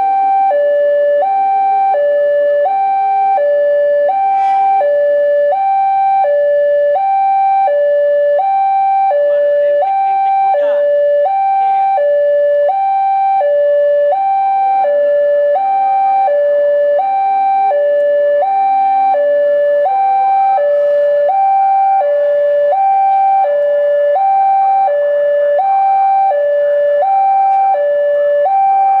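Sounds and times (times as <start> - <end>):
level crossing two-tone alarm: 0.0 - 29.0.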